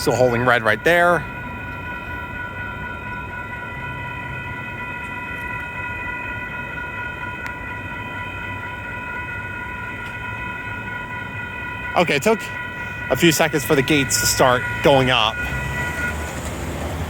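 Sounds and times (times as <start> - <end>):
railroad crossing bell ringing: 0.0 - 17.0.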